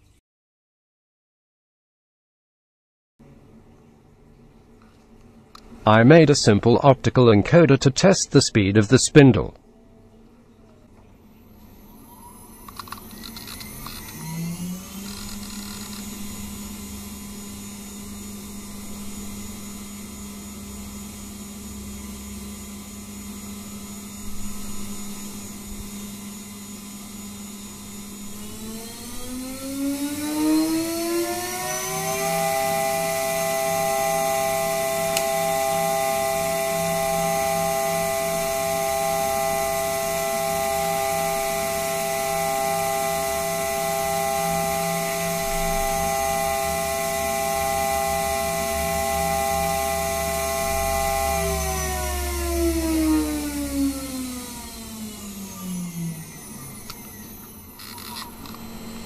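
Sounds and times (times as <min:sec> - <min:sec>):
router spindle whine: 0:11.3 - 0:59.0.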